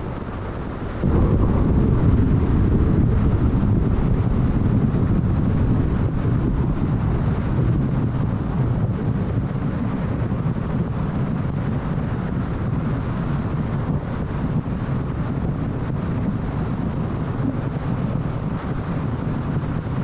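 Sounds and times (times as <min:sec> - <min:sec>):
wind noise: 0:00.0 - 0:20.0.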